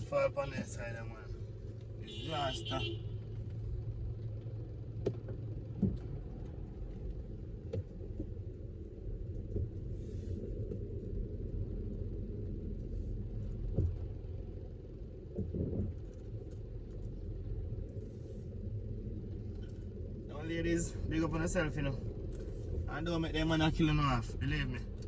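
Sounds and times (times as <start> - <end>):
car rumble in traffic: 0.0 - 25.0.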